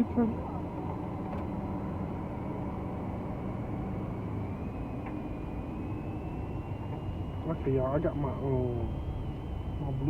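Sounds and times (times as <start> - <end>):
car engine and road noise: 0.0 - 10.0
faint rising whine: 0.0 - 10.0.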